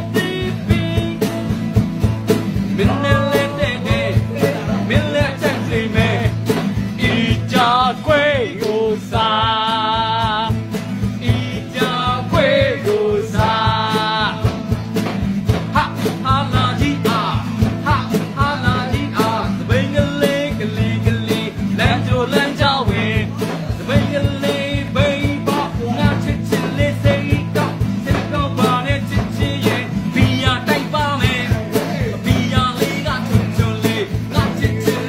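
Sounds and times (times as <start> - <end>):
man singing: 0.0 - 1.8, 2.5 - 35.0
acoustic guitar strumming: 0.0 - 35.0.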